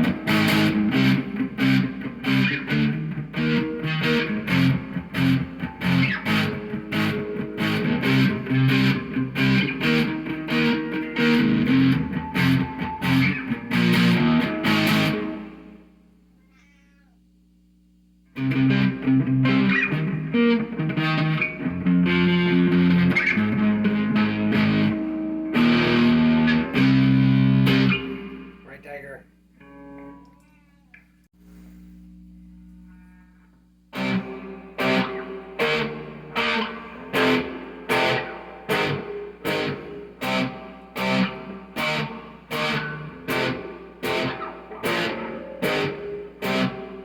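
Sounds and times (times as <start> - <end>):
overdriven electric guitar riffs: 0.0 - 16.1, 18.3 - 30.3, 32.0 - 47.0.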